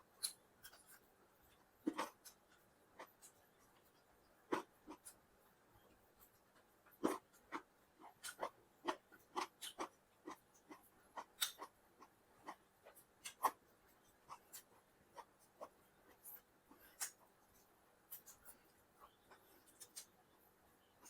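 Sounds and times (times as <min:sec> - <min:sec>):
person chewing food: 0:00.2 - 0:05.2, 0:06.2 - 0:21.0.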